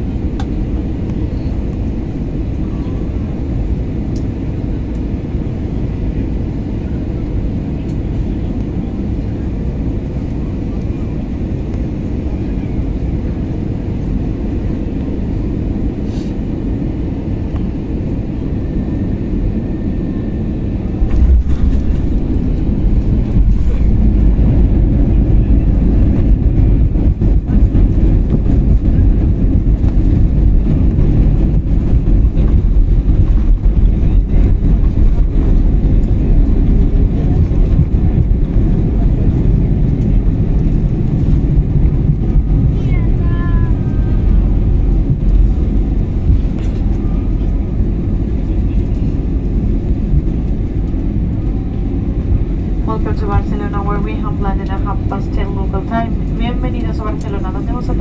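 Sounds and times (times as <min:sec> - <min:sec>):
airliner engine drone: 0:00.0 - 0:58.0
deep rumble of plane on runway: 0:00.0 - 0:58.0.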